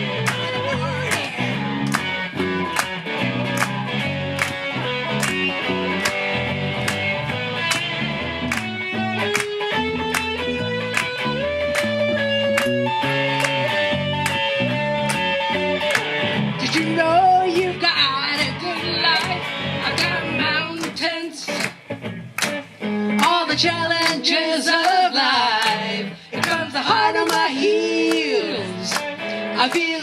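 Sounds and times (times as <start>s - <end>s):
rock band playing instrumental: 0.0s - 23.3s, 28.8s - 29.8s.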